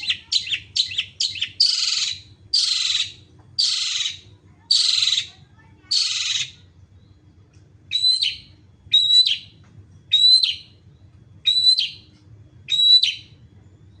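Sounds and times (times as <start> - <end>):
shrike calling: 0.0 - 7.2, 7.9 - 13.4.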